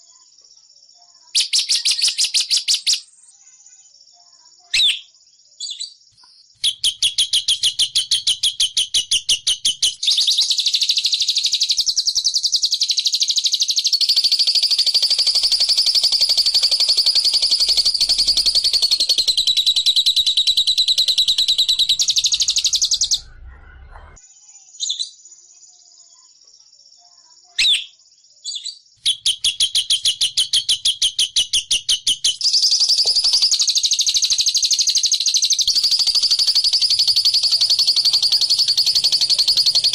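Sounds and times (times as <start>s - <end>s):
songbird chattering trill: 1.3s - 3.2s, 4.6s - 23.5s, 27.5s - 39.9s.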